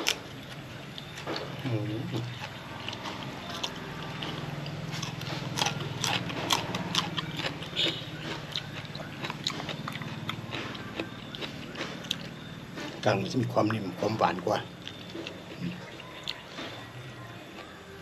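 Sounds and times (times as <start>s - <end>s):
person chewing crisp vegetables: 0.0s - 18.0s.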